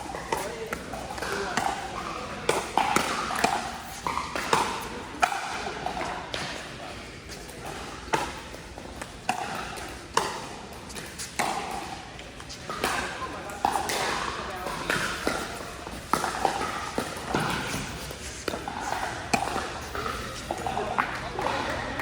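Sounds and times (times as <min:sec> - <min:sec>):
paddles striking pickleball: 0:00.1 - 0:06.7, 0:07.6 - 0:22.0.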